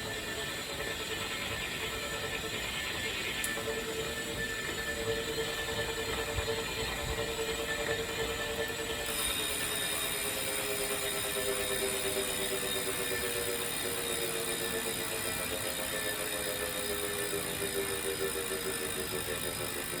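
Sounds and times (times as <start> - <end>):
bike trainer whirring and grinding: 0.0 - 20.0.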